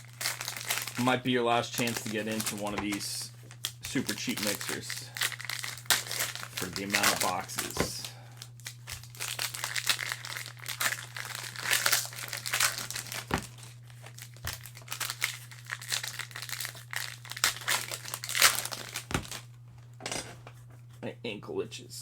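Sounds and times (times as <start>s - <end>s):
cellophane crinkling and tearing: 0.0s - 19.5s
low electrical hum: 0.0s - 22.0s.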